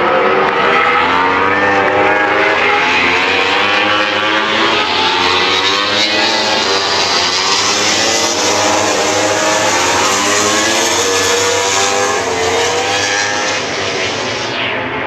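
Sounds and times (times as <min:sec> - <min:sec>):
race motorcycles revving past: 0:00.0 - 0:15.0.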